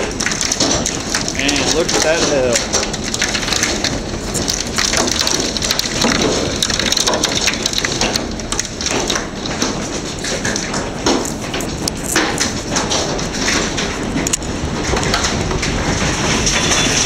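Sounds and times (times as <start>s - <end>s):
hail clattering on hard surfaces: 0.0s - 17.0s
rain pelting down: 0.0s - 17.0s.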